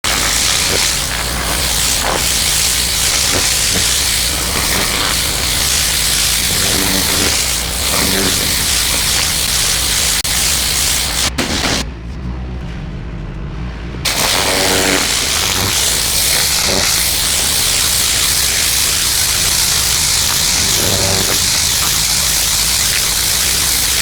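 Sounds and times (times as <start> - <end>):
pressure washer machine hum: 0.0 - 11.8, 14.0 - 24.0
pressure washer spraying concrete: 0.0 - 11.8, 14.1 - 24.0.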